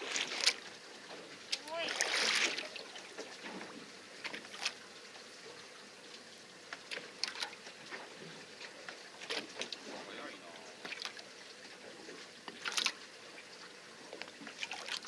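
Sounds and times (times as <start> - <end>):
water lapping against hull: 0.0 - 15.0.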